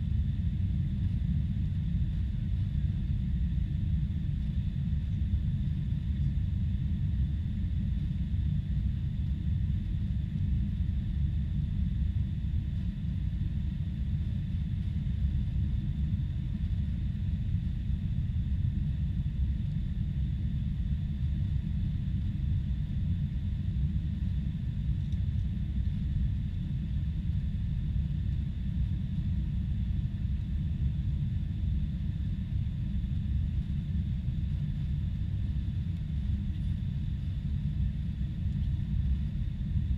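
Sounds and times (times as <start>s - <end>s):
airplane engine rumble: 0.0s - 39.9s.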